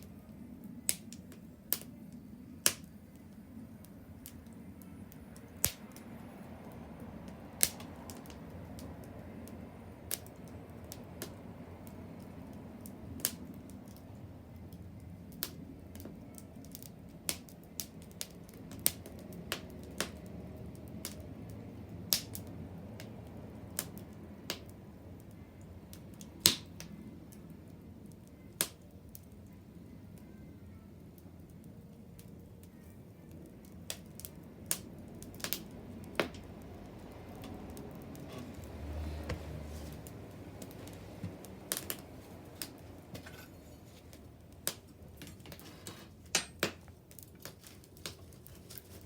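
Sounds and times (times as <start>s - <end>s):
bonfire crackling: 0.0s - 49.0s.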